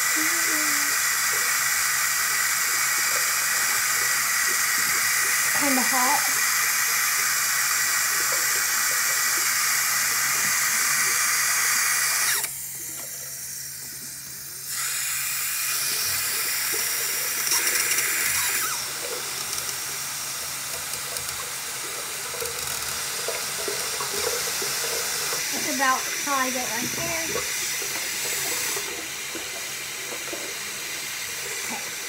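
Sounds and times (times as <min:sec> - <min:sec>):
faucet water running: 0:00.0 - 0:32.0.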